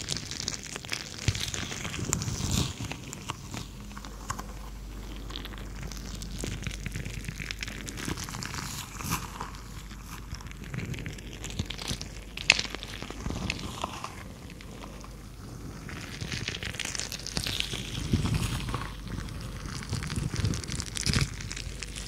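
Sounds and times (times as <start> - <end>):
gel stress ball squishing: 0.0 - 22.0.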